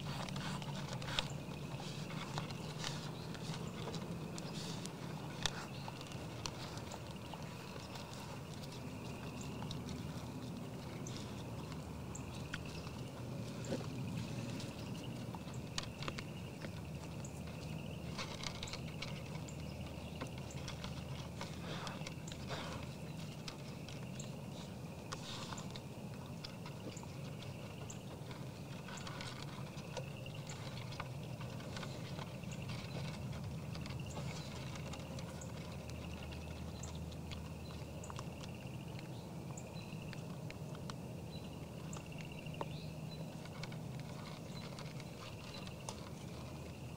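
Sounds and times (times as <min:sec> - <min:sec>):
deer chewing feed: 0:00.0 - 0:46.9
steady low hum: 0:00.0 - 0:46.9.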